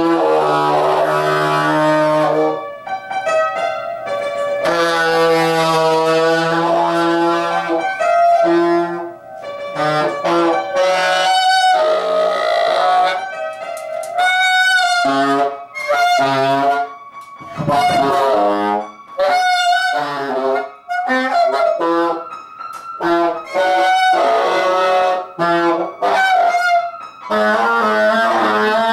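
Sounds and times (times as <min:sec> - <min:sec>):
saxophone playing notes: 0:00.0 - 0:28.9.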